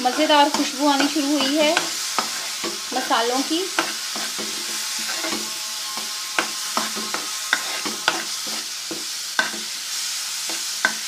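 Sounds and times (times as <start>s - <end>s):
spices sizzling in a pan: 0.0s - 11.0s
spoon stirring and knocking pan: 0.0s - 11.0s.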